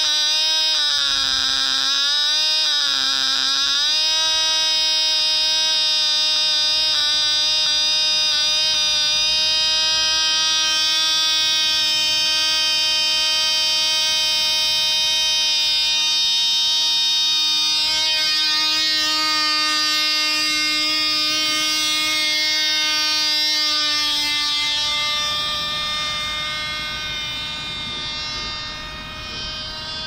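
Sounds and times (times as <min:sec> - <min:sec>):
model engine high-pitched buzz: 0:00.0 - 0:30.0.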